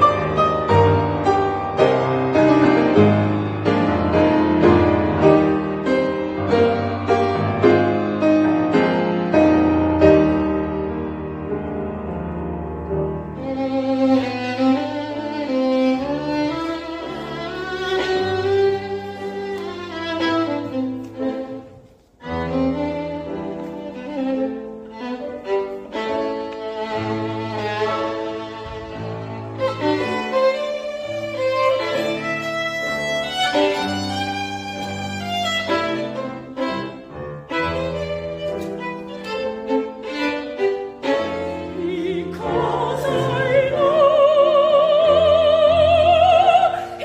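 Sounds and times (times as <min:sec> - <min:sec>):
piano playing: 0:00.0 - 0:47.0
violin melody: 0:00.0 - 0:47.0.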